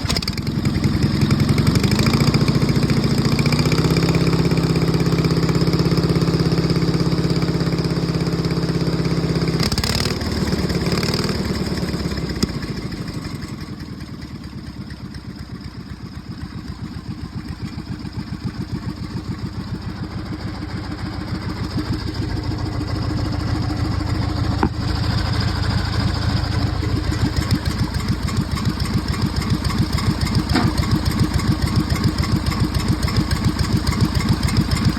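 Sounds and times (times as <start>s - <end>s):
lawn tractor engine: 0.0s - 34.9s.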